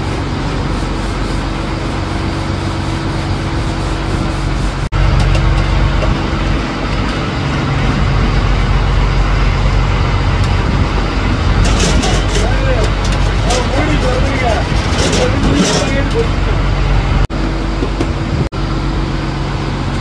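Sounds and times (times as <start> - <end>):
boat diesel engine running: 0.0 - 20.0
wind: 0.0 - 20.0.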